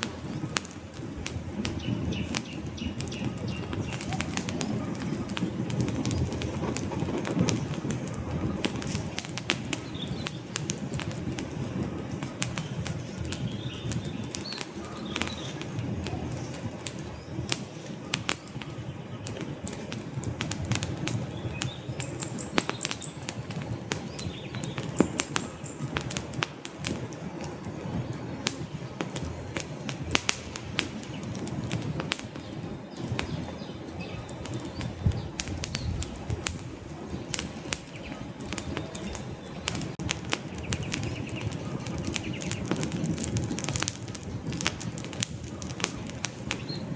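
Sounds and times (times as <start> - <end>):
low rumble of flames: 0.0 - 46.9
wood fire crackling and popping: 0.0 - 46.9.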